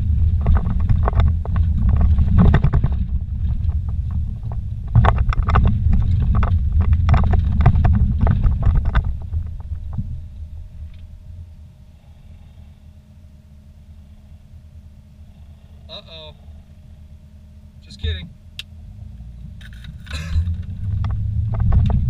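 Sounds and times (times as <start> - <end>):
quiet hum: 0.0 - 22.0
tires rumbling on rocky road: 0.0 - 22.0.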